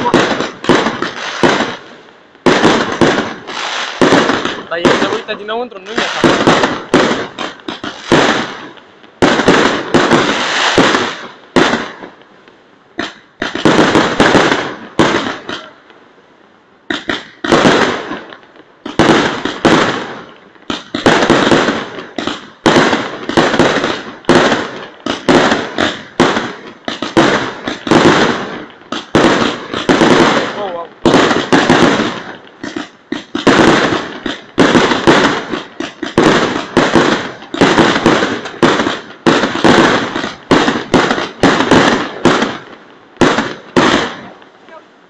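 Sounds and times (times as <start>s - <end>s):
fireworks bangs: 0.0s - 16.2s, 16.8s - 44.9s.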